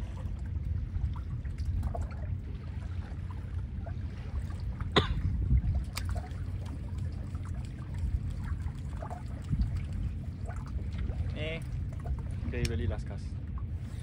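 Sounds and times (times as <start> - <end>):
steady low rumble: 0.0 - 14.0
water lapping against boat hull: 0.0 - 14.0.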